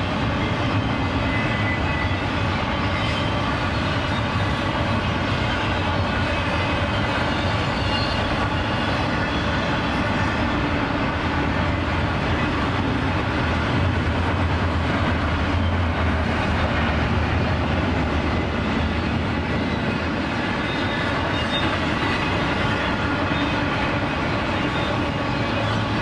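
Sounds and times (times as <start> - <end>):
freight train wheels rumbling on rails: 0.0 - 26.0.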